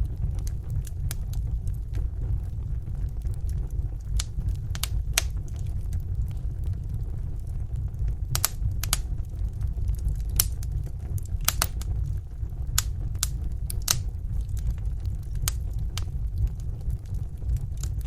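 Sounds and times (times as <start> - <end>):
fire crackling and popping: 0.0 - 18.0
low rumble of fire: 0.0 - 18.0.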